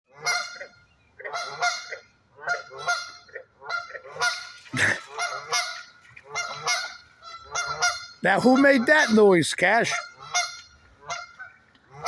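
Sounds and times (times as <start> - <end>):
honking animal calls: 0.1 - 12.0.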